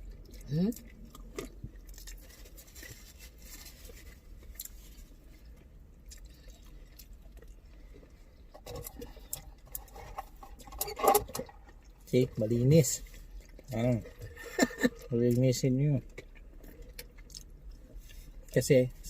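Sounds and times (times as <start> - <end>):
chewing and lip-smacking: 0.0 - 10.8, 13.0 - 18.6.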